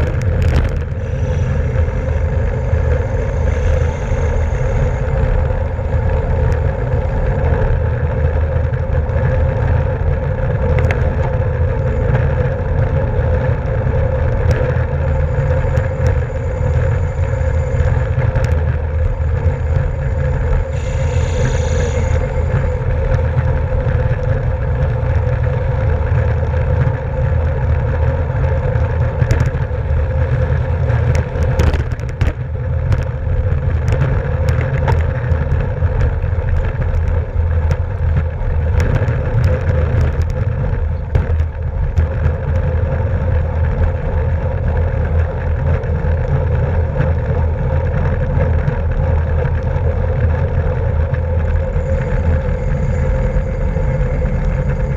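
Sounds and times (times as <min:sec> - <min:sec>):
tyre and road noise: 0:00.0 - 0:54.9
wind rushing over microphone: 0:00.0 - 0:54.9.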